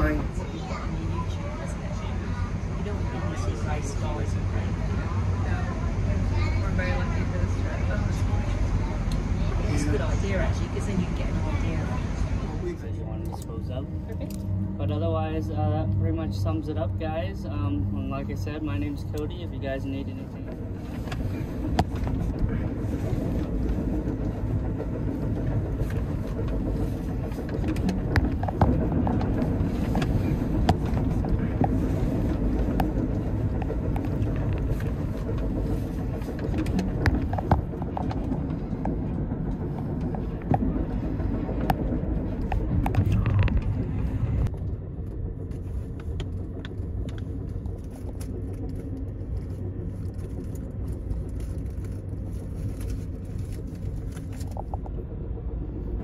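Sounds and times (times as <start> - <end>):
train car rolling rumble: 0.0 - 56.0.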